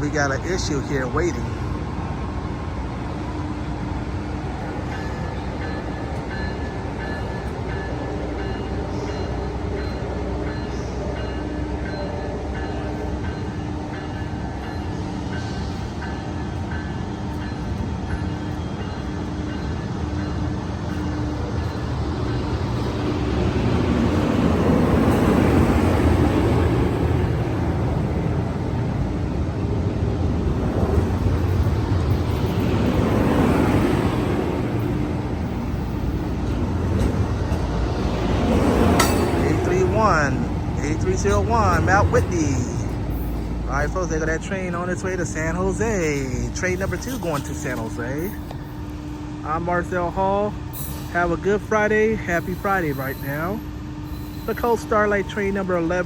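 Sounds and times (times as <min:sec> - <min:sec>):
diesel locomotive rumble: 0:00.0 - 0:56.0
train rolling rush: 0:00.0 - 0:56.0.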